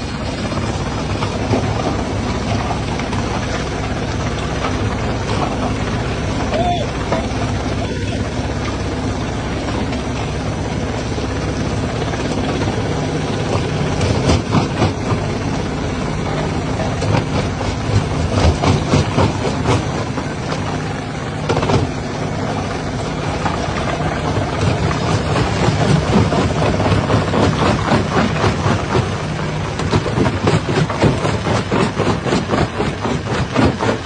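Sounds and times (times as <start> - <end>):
jaw crusher droning: 0.0 - 34.0.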